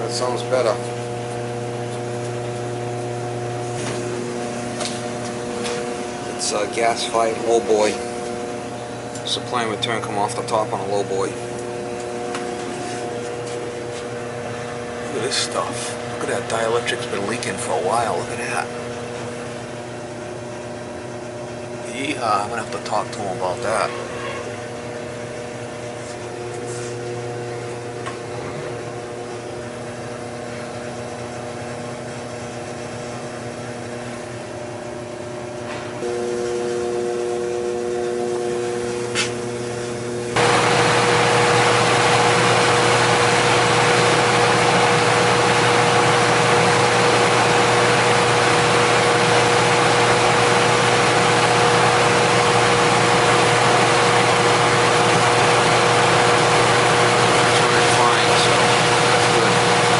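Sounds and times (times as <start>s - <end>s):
furnace blower hum: 0.0s - 59.9s.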